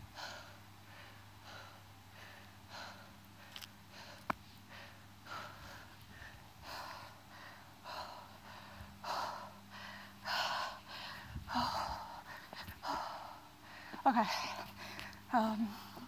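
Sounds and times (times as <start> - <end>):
person breathing: 0.0 - 16.0.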